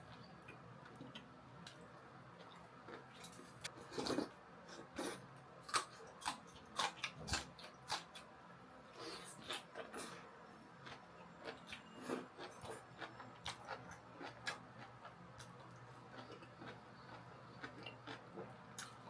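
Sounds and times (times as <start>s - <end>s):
crunchy chewing of food: 0.1s - 8.3s, 8.9s - 19.0s.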